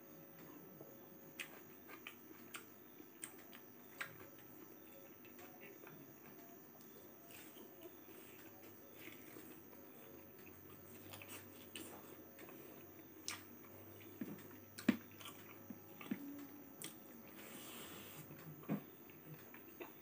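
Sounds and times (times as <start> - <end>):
person chewing food: 1.4 - 20.0.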